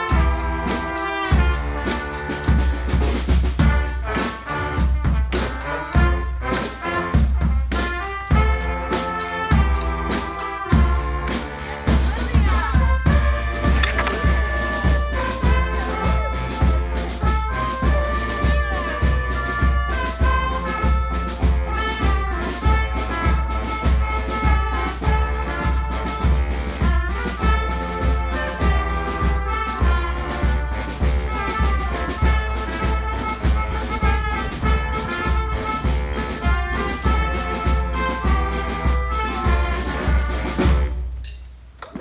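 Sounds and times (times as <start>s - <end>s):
street brass band playing: 0.0s - 41.3s
heavy drum beat: 0.0s - 41.4s.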